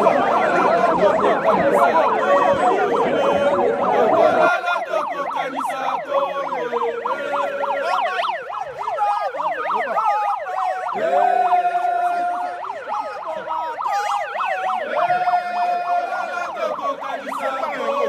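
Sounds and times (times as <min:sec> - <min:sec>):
electronic sirens warbling: 0:00.0 - 0:18.0
steady held siren tone: 0:00.0 - 0:18.0.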